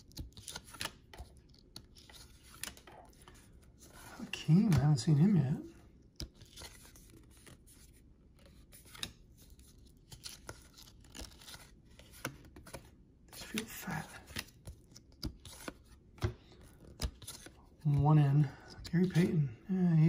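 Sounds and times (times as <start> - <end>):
trading cards rustling: 0.1 - 20.0.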